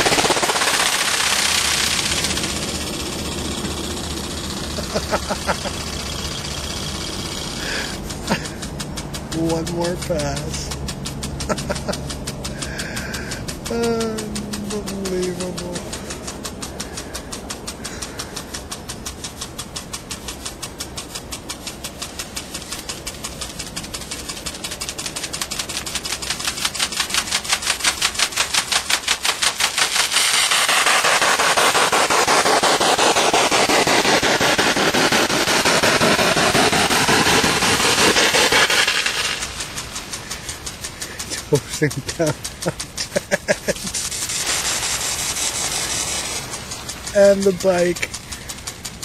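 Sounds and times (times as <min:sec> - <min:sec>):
lawn sprinkler ticking: 0:00.0 - 0:49.0
water spray pelting tent fabric: 0:00.0 - 0:49.0.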